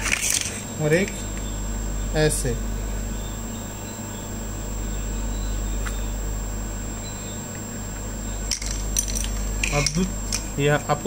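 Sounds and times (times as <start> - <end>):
high-pitched whine: 0.0 - 11.0
low background hum: 0.0 - 11.0.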